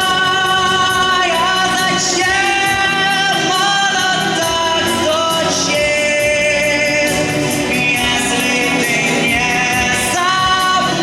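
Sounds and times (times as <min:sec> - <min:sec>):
pop song with sung vocal: 0:00.0 - 0:11.0.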